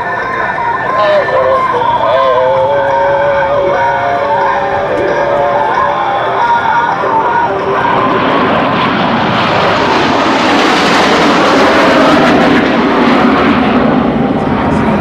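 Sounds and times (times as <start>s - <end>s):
jets flying past roaring: 0.0s - 15.0s.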